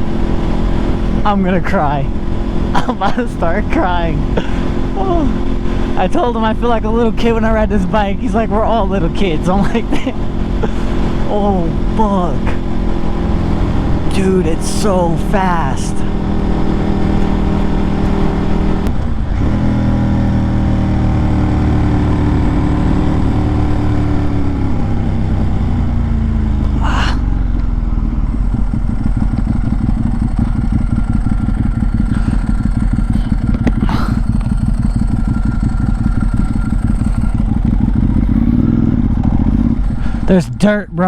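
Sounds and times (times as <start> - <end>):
motorcycle engine while riding: 0.0 - 41.0.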